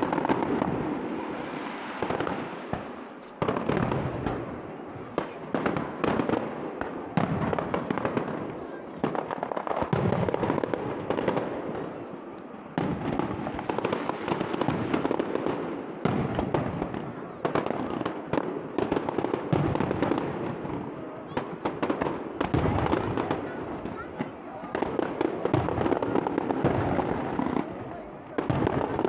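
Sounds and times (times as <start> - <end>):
firework crackling: 0.0 - 29.0.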